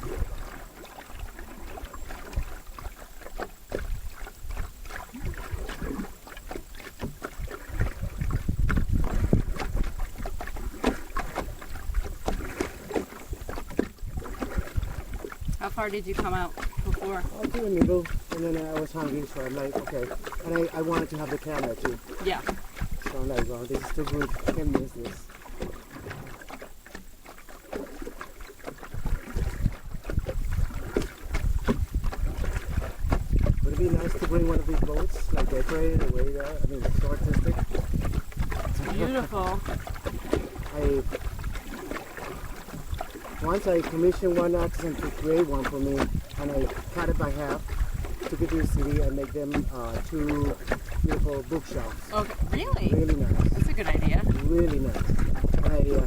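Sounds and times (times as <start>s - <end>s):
paddle strokes in water: 0.0s - 56.0s
water splashing against hull: 0.0s - 56.0s
wind rumble on microphone: 0.0s - 56.0s.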